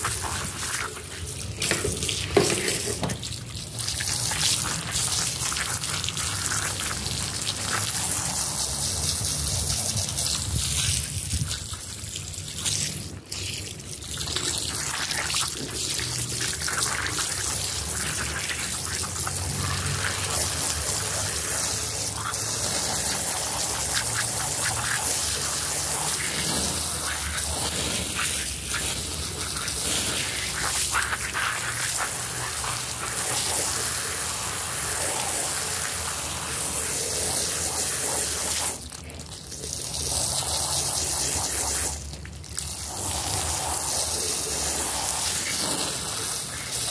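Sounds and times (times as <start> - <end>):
water spraying onto carpet: 0.0 - 46.9.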